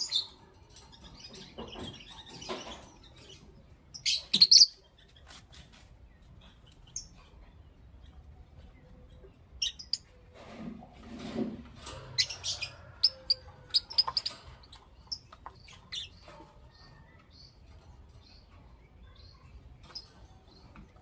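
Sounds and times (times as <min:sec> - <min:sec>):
lovebirds chirping: 0:00.0 - 0:10.3, 0:12.1 - 0:21.0.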